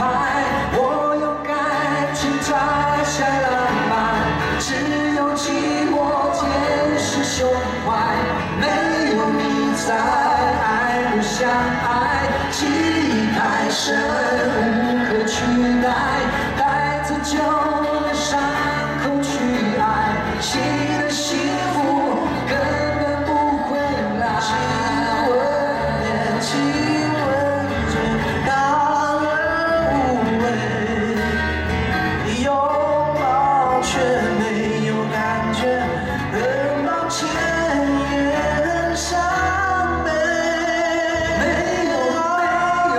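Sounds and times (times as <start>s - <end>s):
acoustic guitars: 0.0s - 42.9s
men singing: 0.0s - 42.9s.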